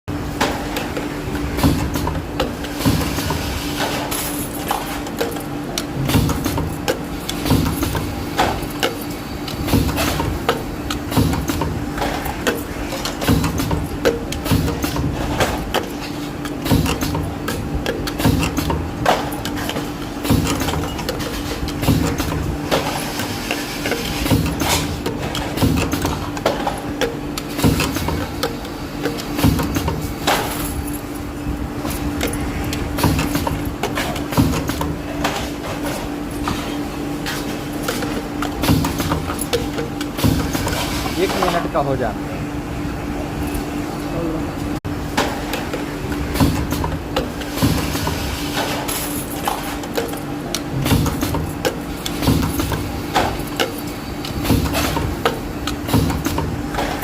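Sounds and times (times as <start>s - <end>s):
machine hum: 0.1s - 57.0s.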